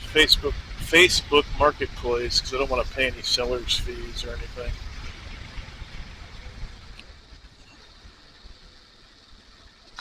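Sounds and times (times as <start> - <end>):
wind on microphone: 0.0 - 8.5
motorcycle engine rumble: 0.0 - 10.0.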